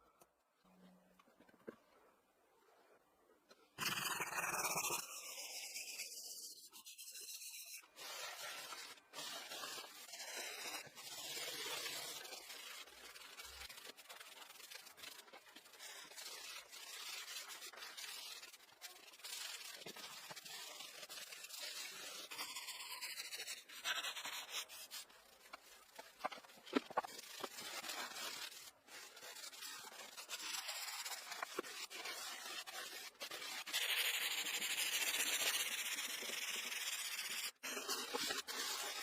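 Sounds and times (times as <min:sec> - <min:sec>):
scratchy rubbing on wood: 0:03.8 - 0:39.0.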